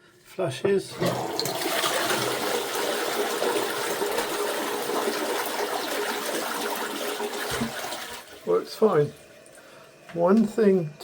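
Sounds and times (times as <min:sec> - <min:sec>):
toilet flushing and refilling: 0:00.8 - 0:11.0.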